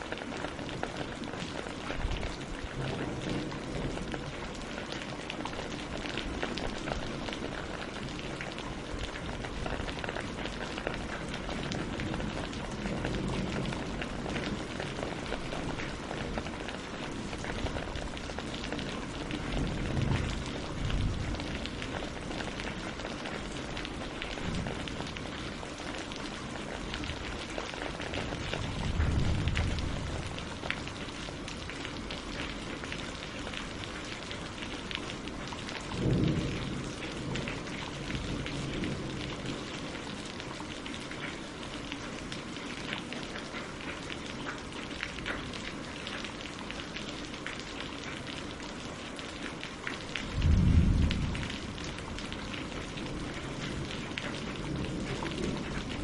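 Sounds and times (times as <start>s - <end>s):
rain on leaves and water: 0.0s - 56.0s.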